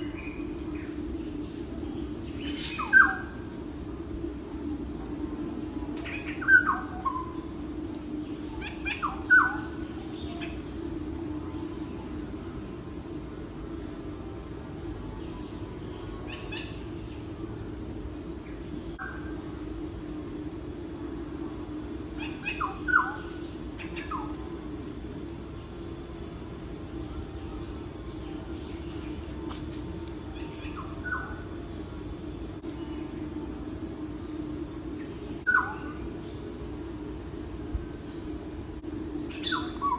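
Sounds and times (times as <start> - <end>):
pulsing insect drone: 0.0 - 39.9.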